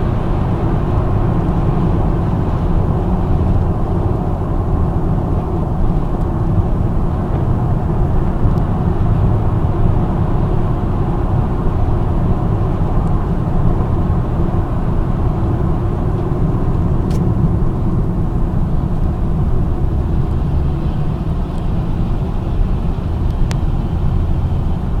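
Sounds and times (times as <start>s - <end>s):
road and engine rumble: 0.0s - 25.0s.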